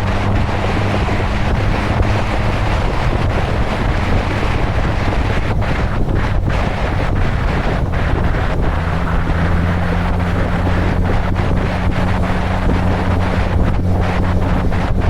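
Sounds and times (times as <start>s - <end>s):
low hum: 0.0s - 15.0s
wind buffeting microphone: 0.0s - 15.0s.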